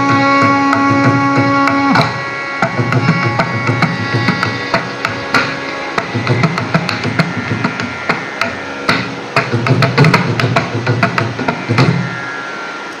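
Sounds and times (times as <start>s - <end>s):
hand drum strokes: 0.0s - 13.0s
violin holding long notes: 0.0s - 13.0s.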